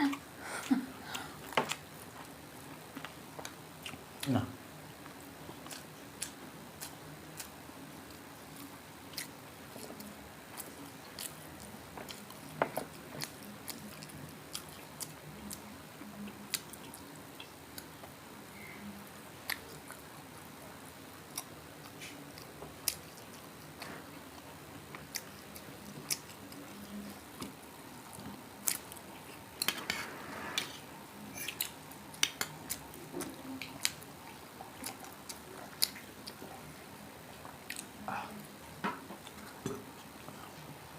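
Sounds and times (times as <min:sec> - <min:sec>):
chewing crispy food: 0:00.0 - 0:18.3, 0:19.0 - 0:40.9.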